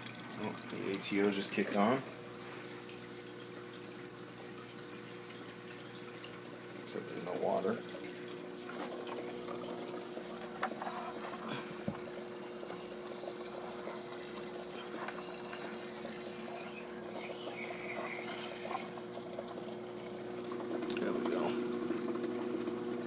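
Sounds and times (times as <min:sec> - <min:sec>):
pump humming: 0:00.0 - 0:23.0
water running: 0:00.0 - 0:23.0.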